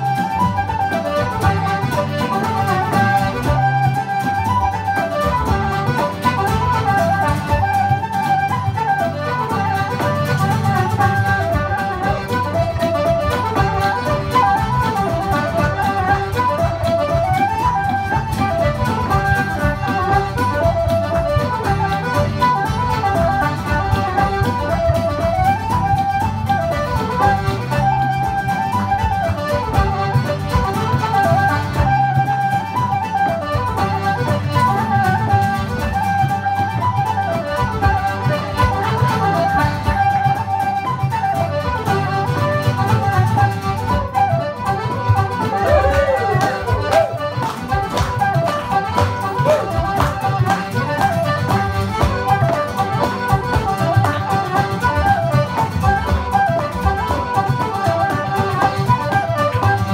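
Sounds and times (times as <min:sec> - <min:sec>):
button accordion: 0:00.0 - 0:59.9
flute: 0:00.0 - 0:59.9.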